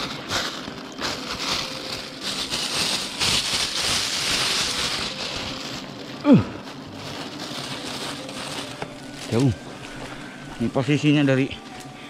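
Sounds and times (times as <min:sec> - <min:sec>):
plastic bag rustling: 0:00.0 - 0:11.6.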